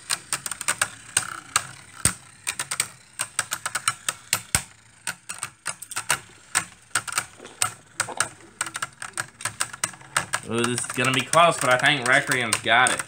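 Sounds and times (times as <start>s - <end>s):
spinning tops clashing: 0.0s - 13.0s.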